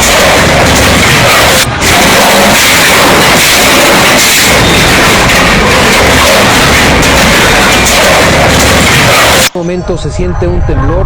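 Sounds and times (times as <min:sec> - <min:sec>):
rumbling and crashing noise: 0:00.0 - 0:11.0.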